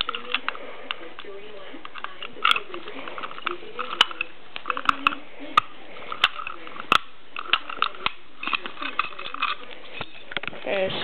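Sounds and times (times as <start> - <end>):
sharp metallic clicks and rattles: 0.0 - 10.6.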